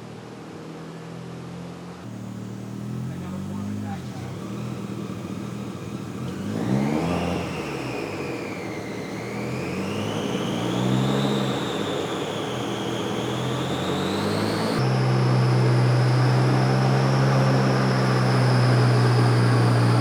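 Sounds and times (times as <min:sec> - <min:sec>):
turbocharged engine whine on dyno: 0:00.0 - 0:20.0.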